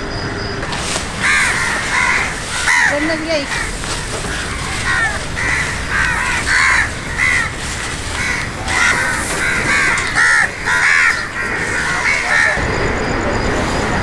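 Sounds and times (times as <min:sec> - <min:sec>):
crows cawing: 0:00.8 - 0:12.6.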